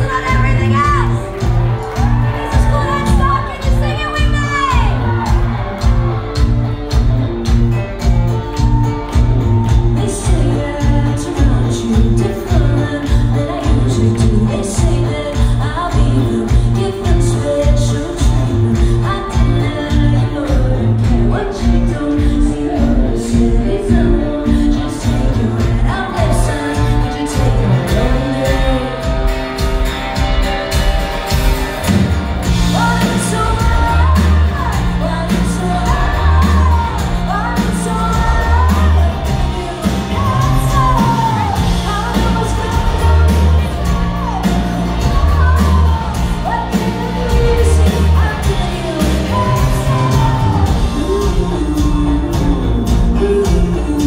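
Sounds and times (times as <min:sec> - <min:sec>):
female lead vocal: 0:00.0 - 0:31.0, 0:32.4 - 0:54.0
live rock band playing: 0:00.0 - 0:54.0.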